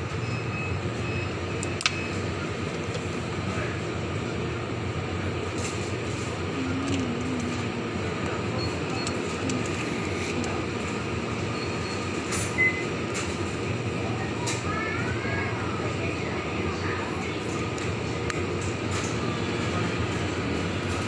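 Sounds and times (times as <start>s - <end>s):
refrigerator fans humming: 0.0s - 21.0s.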